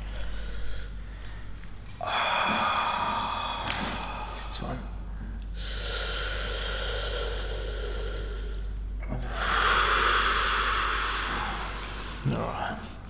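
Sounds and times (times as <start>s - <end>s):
person breathing deeply: 0.0s - 13.0s.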